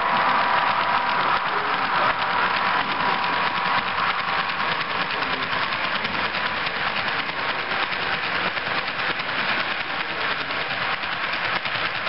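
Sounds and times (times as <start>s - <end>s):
model train wheels rattling: 0.0s - 12.0s.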